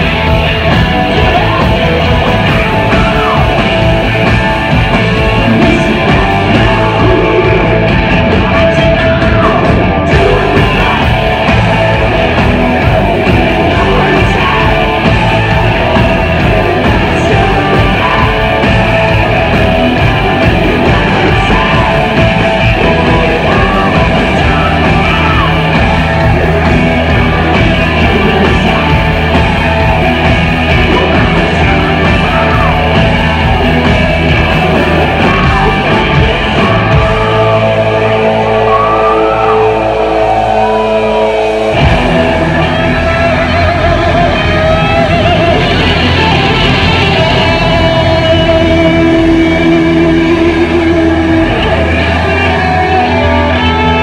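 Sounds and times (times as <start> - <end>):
distorted electric guitar: 0.0 - 54.0
drums: 0.0 - 54.0.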